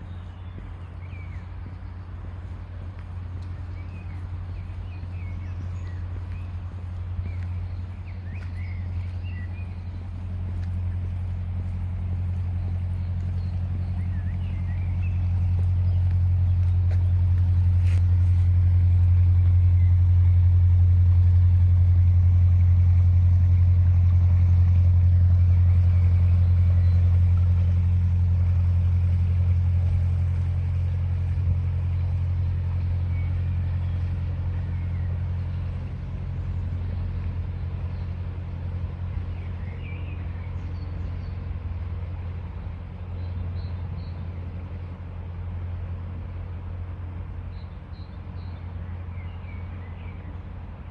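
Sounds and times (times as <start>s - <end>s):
low engine drone: 0.0s - 50.9s.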